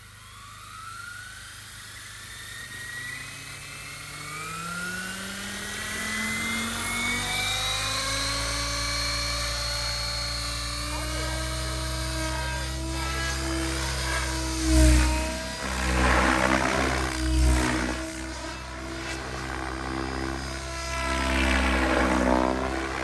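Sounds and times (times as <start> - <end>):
helicopter motor and rotor whine: 0.0 - 23.0.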